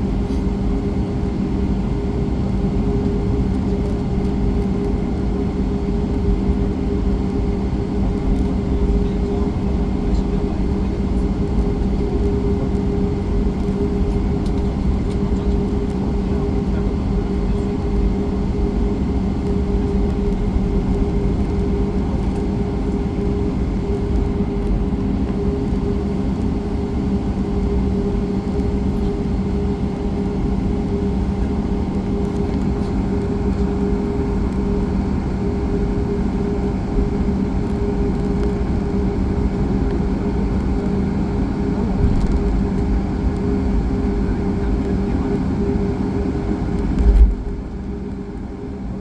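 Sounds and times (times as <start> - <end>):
airplane cabin hum: 0.0 - 49.0
steady low tones: 2.3 - 46.1.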